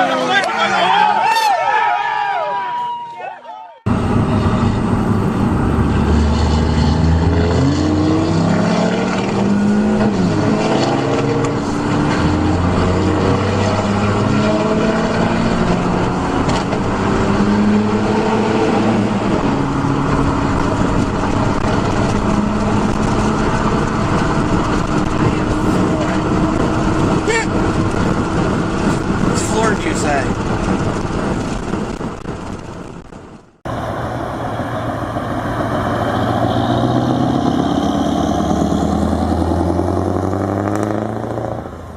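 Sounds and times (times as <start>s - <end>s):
diesel engine accelerating: 3.8s - 41.9s.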